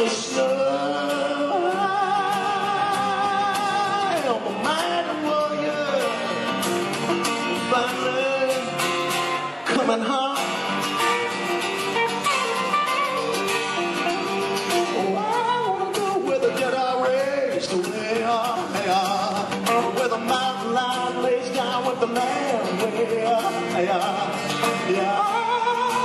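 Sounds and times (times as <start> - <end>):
man singing: 0.0 - 11.4, 14.0 - 26.0
electric guitar: 0.0 - 26.0
strummed acoustic guitar: 0.0 - 26.0.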